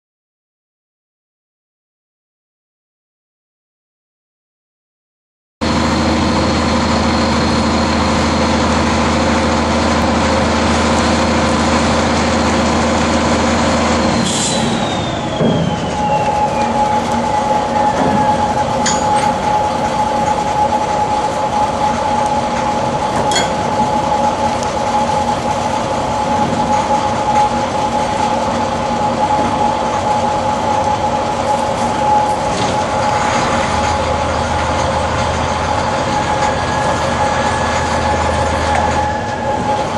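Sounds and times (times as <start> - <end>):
heavy machinery humming: 5.6 - 39.9
machinery high whine: 5.6 - 39.9.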